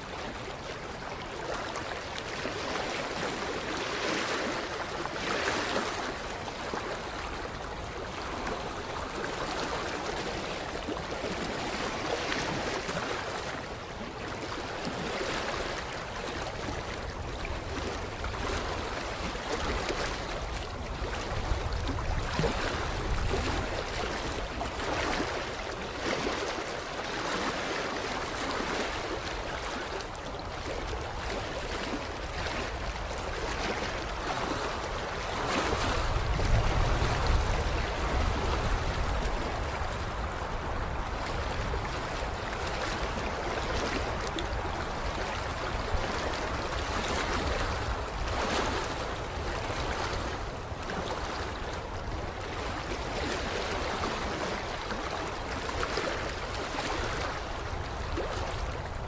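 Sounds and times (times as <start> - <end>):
water lapping on shoreline: 0.0 - 59.0.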